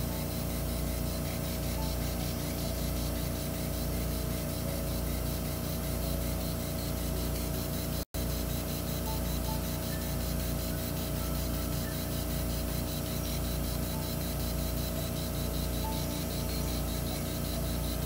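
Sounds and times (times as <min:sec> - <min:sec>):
surgical shaver motor whirring: 0:00.0 - 0:18.0.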